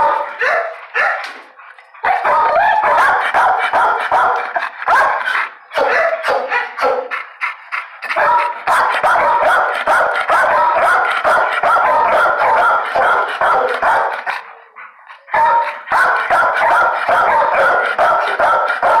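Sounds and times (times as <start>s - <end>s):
dog barking: 0.0s - 1.3s, 2.0s - 7.2s, 8.1s - 19.0s.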